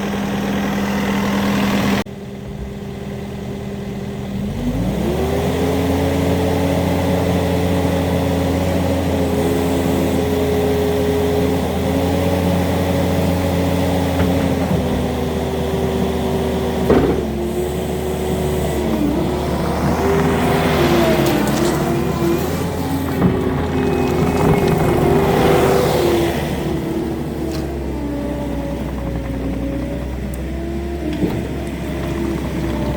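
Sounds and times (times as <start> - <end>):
diesel engine at high revs: 0.0 - 32.9.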